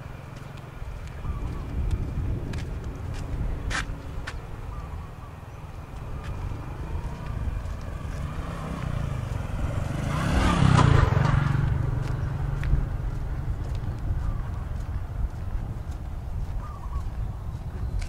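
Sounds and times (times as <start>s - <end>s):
vehicle passing by: 0.0s - 18.0s.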